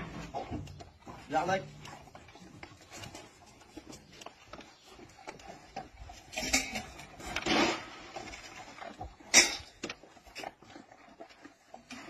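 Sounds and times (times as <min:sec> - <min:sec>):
dogs moving and feeding: 0:00.0 - 0:12.0.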